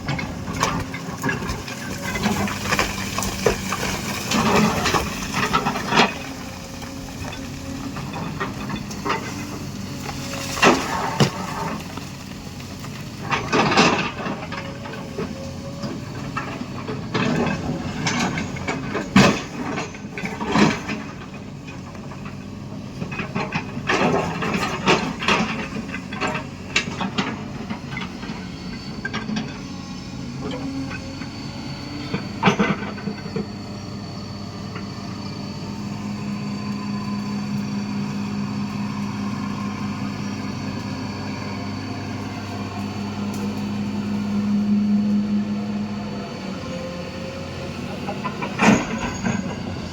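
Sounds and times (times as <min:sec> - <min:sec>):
excavator diesel engine: 0:00.0 - 0:49.9.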